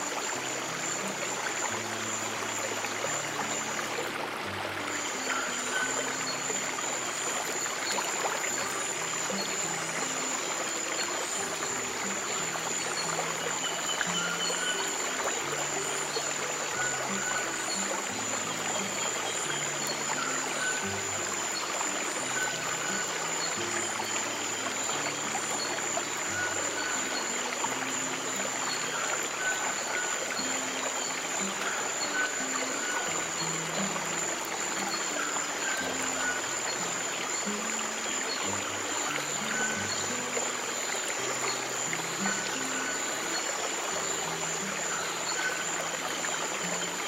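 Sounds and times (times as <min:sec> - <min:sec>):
stream water trickling: 0:00.0 - 0:47.0.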